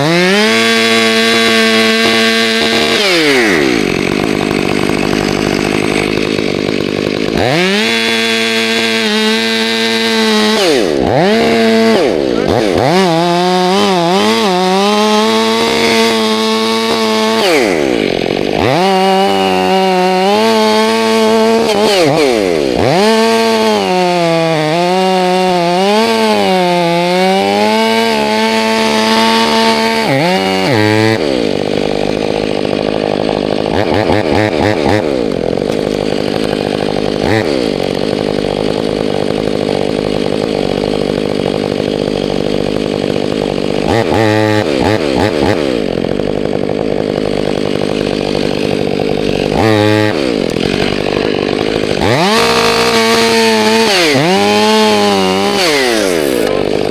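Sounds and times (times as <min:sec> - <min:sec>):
chainsaw running at high revs: 0:00.0 - 0:56.9.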